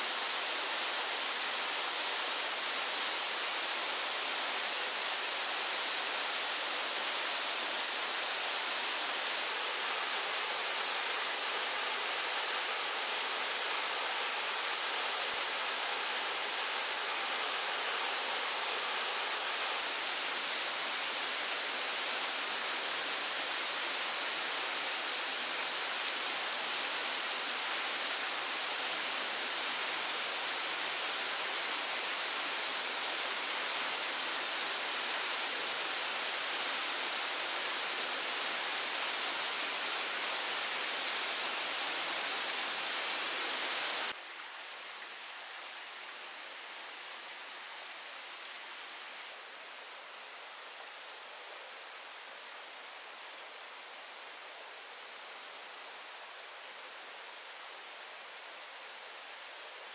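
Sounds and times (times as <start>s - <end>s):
steady rushing hiss: 0.0s - 59.9s.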